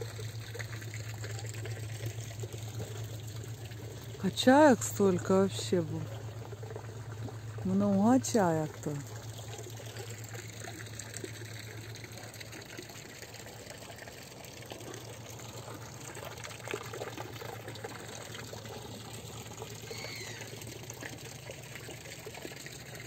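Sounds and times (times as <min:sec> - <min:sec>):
water pouring into basin: 0:00.0 - 0:23.0.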